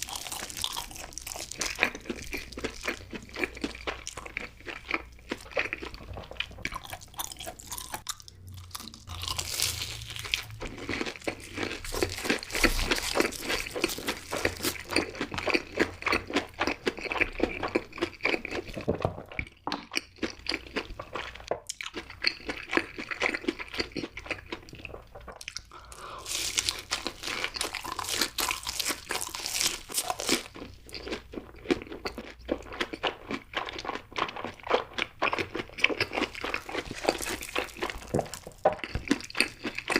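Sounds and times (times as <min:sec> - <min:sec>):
crispy food crunching: 0:00.0 - 0:39.9.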